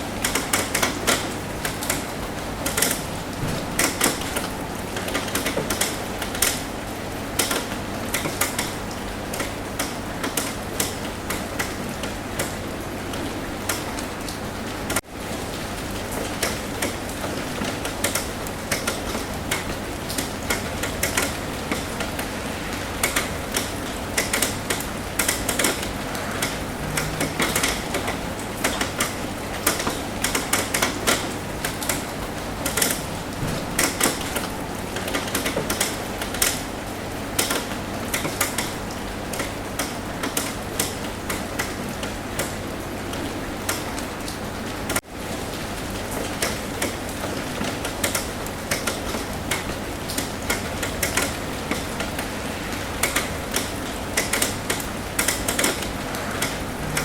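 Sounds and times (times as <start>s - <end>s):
rain pattering on a roof: 0.0s - 57.0s.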